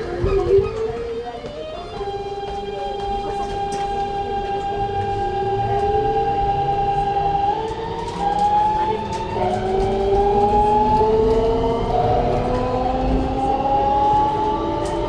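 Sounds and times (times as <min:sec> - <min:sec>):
rumble of motors and rails: 0:00.0 - 0:15.0
train inverter musical tones: 0:00.0 - 0:15.0.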